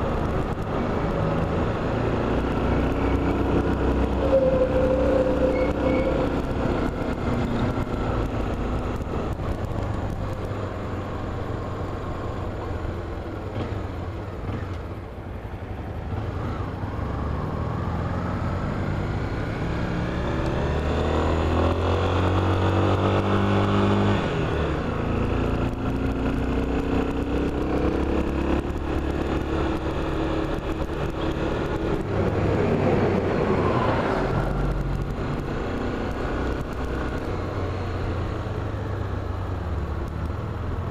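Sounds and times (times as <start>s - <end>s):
vehicle engine accelerating: 0.0s - 15.0s, 15.8s - 40.9s
road and wind noise: 0.0s - 40.9s.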